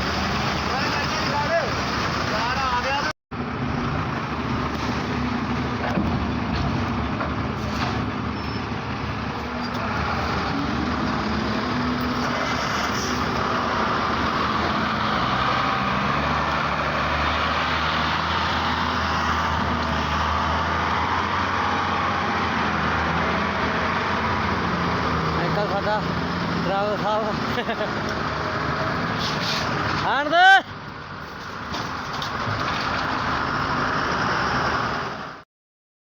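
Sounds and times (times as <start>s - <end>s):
truck engine droning: 0.0s - 30.1s
road noise: 0.0s - 35.4s.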